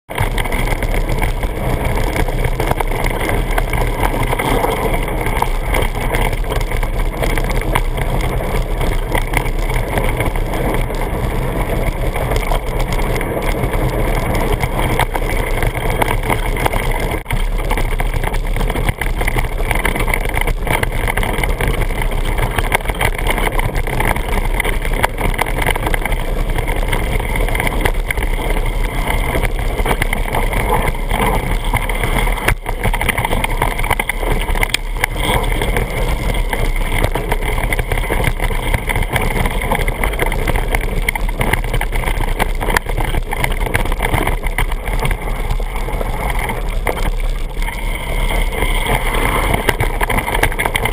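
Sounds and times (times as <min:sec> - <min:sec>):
bike rattling and knocking: 0:00.1 - 0:50.9
tyre and wind noise: 0:00.1 - 0:50.9.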